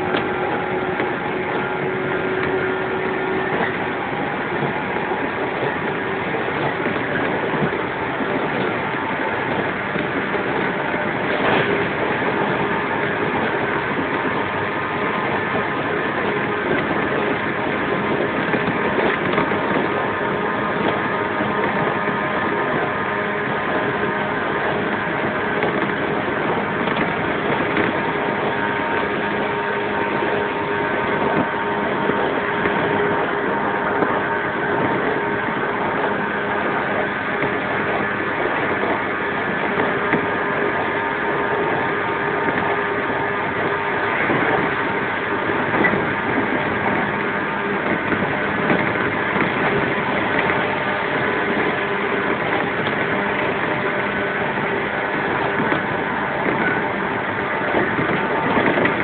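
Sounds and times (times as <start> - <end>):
wheel-on-rail rumble: 0.0 - 59.0.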